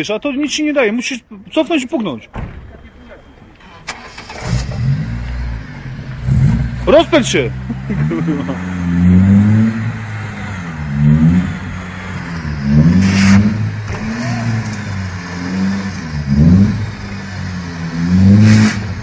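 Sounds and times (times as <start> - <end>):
car engine revving: 3.6 - 19.0.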